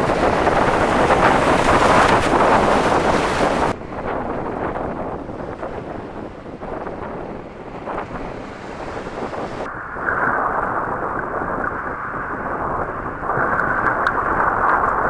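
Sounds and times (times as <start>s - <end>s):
gusty wind buffeting microphone: 0.0s - 15.0s
waves washing against pier: 0.0s - 15.0s.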